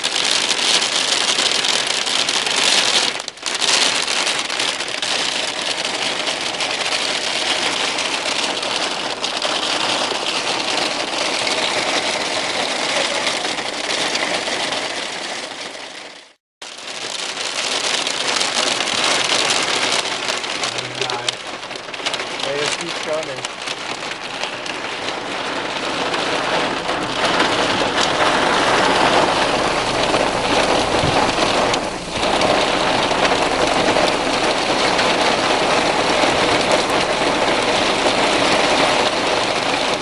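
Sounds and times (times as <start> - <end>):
heavy rain drumming on car roof: 0.0 - 40.0.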